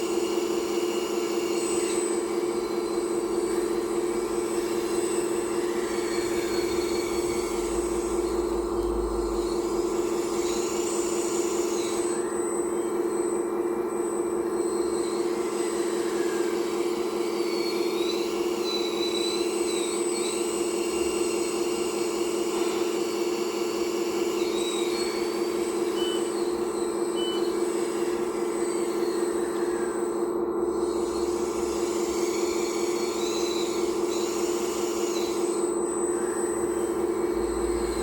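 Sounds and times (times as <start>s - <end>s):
fainter higher whines: 0.0s - 38.0s
hydraulic pump whining: 0.0s - 38.0s.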